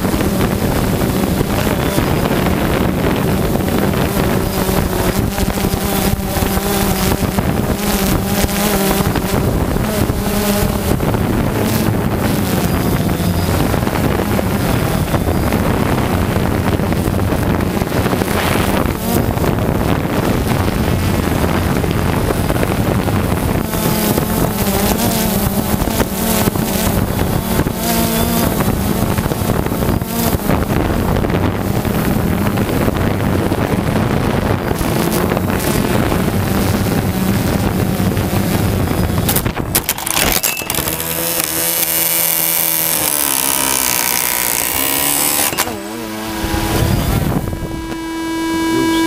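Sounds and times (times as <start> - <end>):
drone propellers buzzing: 0.0 - 49.0.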